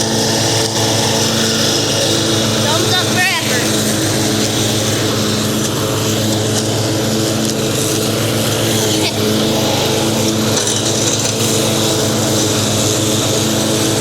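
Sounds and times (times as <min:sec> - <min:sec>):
riding lawn mower engine: 0:00.0 - 0:14.0.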